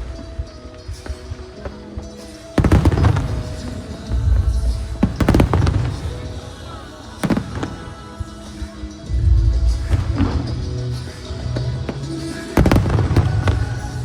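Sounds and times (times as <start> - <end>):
fireworks bursting with booms: 0.0 - 14.0
music soundtrack: 0.0 - 14.0.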